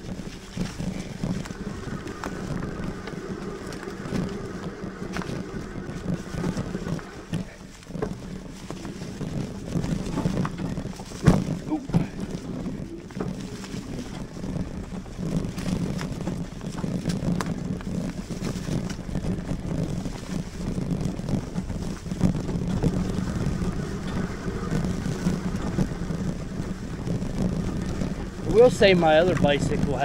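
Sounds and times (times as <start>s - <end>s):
bike tires rumbling: 0.0s - 30.0s
sharp clicks and rattles: 0.0s - 30.0s
wind on microphone: 0.0s - 30.0s.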